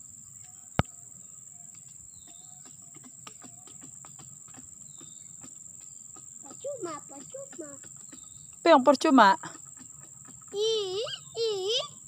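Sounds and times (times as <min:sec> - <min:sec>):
high-pitched insect drone: 0:00.0 - 0:12.0
bird chirps: 0:00.4 - 0:12.0.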